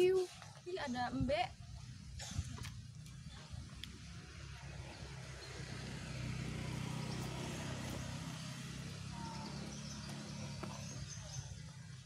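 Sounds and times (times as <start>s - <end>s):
vehicle engine running: 1.7s - 12.0s.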